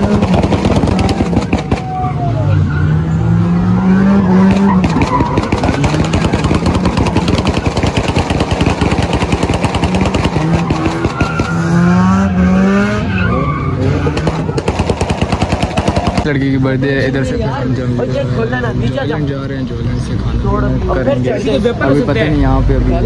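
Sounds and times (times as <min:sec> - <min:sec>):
car engine at high revs: 0:00.0 - 0:23.0
tyres skidding and squealing: 0:00.0 - 0:23.0.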